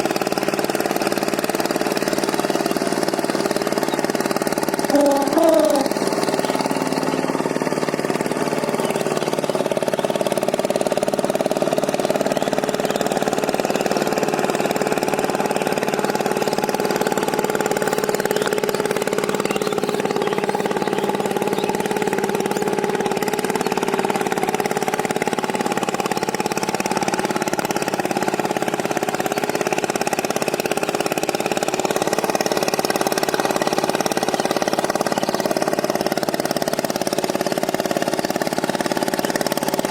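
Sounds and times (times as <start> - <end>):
power tiller diesel engine running: 0.0 - 39.9.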